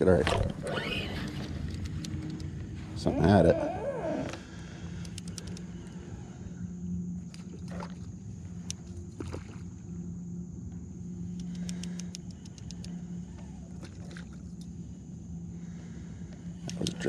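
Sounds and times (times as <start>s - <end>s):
fishing reel humming: 0.0s - 17.0s.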